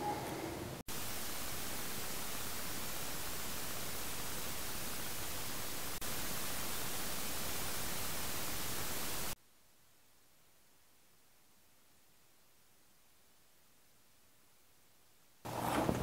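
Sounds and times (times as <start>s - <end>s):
rain and runoff water hiss: 0.0s - 15.5s.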